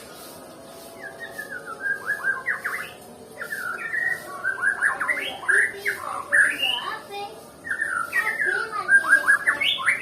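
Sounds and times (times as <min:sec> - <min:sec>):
bird singing whistled notes: 0:00.0 - 0:07.0, 0:07.6 - 0:10.0.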